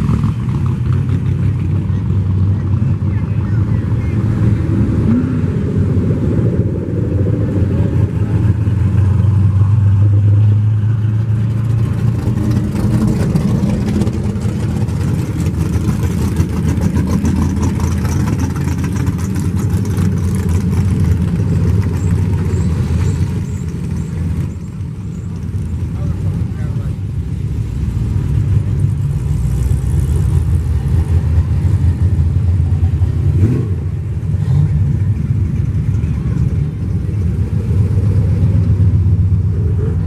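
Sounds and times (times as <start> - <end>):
muscle cars driving past: 0.0 - 40.0.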